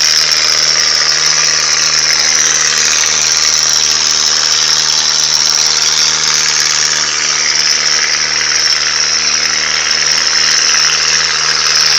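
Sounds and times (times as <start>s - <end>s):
engine running steadily: 0.0s - 11.9s.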